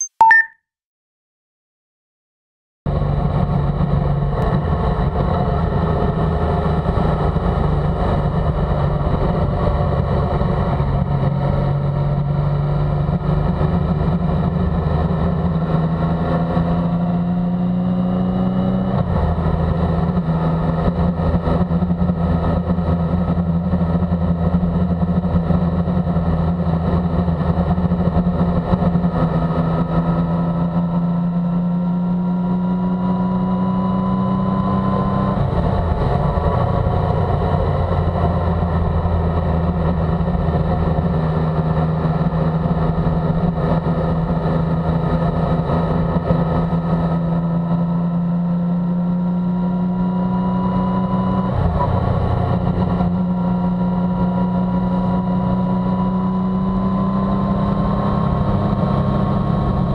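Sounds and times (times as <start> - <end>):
motorcycle engine accelerating: 2.9 - 59.9.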